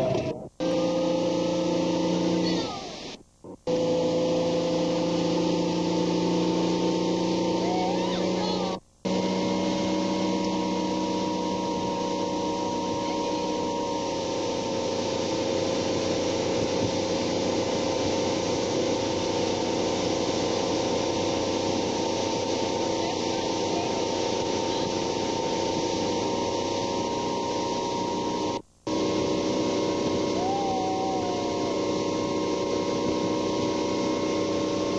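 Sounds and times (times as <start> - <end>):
motorboat engine running: 0.0 - 34.9
rushing water: 3.8 - 34.9.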